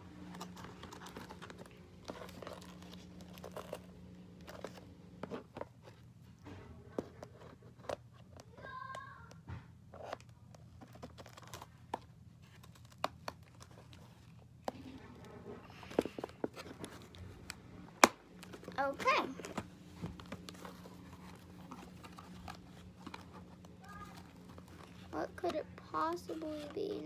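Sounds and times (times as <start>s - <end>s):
packaging crinkling and rustling: 0.2s - 6.4s, 10.0s - 27.0s.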